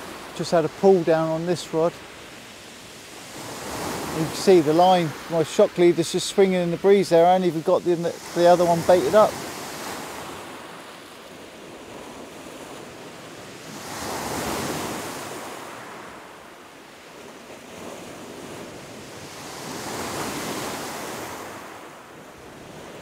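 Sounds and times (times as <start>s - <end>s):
waves breaking on shingle beach: 0.0s - 23.0s.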